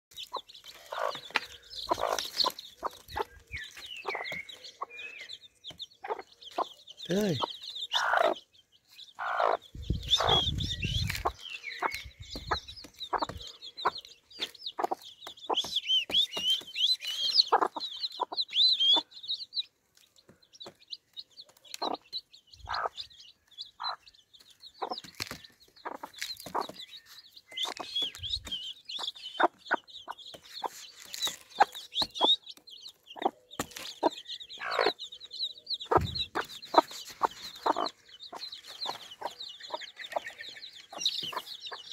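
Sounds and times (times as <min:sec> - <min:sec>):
hen clucking: 0:00.1 - 0:19.7, 0:20.5 - 0:41.9
chicks peeping: 0:00.1 - 0:41.9.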